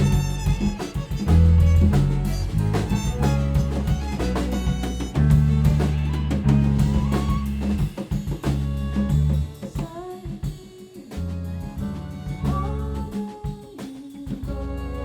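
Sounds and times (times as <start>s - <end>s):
bass guitar low notes: 0.0s - 9.6s, 11.2s - 13.1s, 14.4s - 15.0s
band playing instrumental: 0.0s - 13.6s
drum kit snare and kick: 0.0s - 14.6s.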